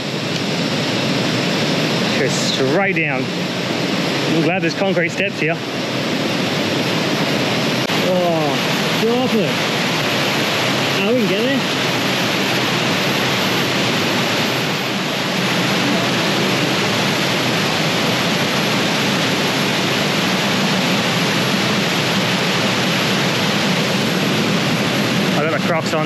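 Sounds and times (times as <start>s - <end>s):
waterfall rushing: 2.1s - 26.0s.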